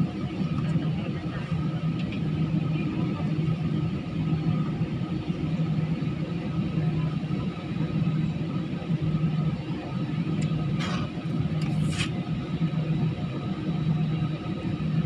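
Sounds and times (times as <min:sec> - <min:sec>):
jet engine hum in cabin: 0:00.0 - 0:15.0.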